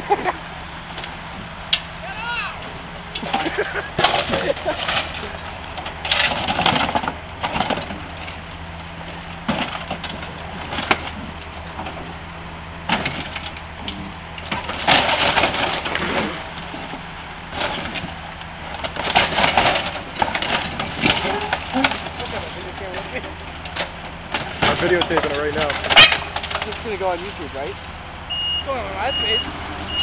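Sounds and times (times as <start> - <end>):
excavator diesel engine running: 0.0 - 30.0
sheet metal crunching and scraping: 3.2 - 12.2, 12.8 - 27.8.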